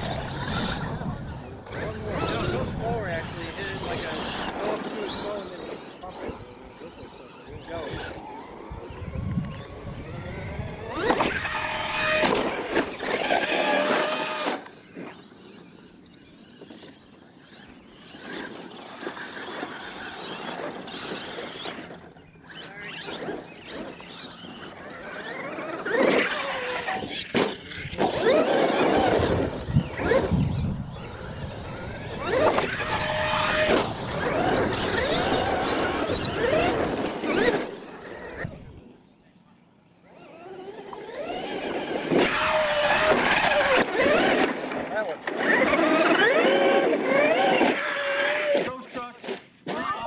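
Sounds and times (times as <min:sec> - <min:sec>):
electric motor whining: 0:00.0 - 0:38.9, 0:40.0 - 0:48.8.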